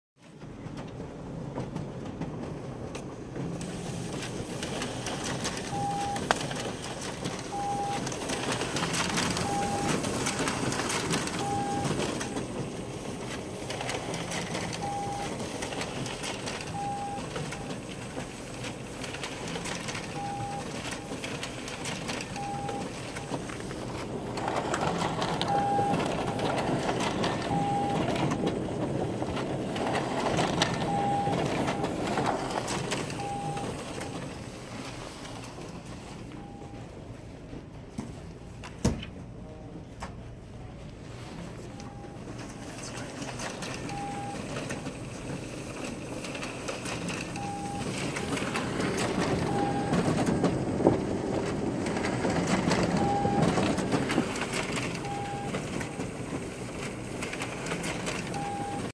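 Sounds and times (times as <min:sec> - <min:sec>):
copier running noise: 0:00.2 - 0:58.9
copier beeping: 0:03.4 - 0:38.3, 0:39.6 - 0:58.9.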